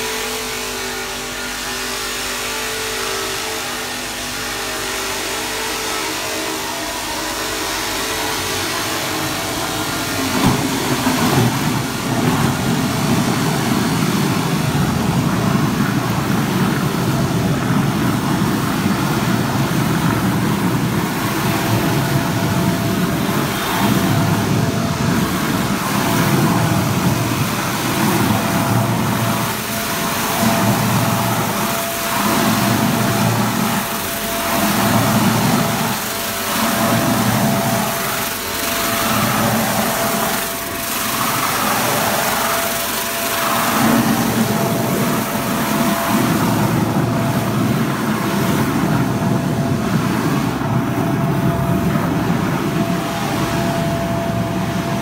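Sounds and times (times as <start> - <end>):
faint steady whine: 0.0 - 55.0
mixer churning liquid in steel tank: 0.0 - 55.0.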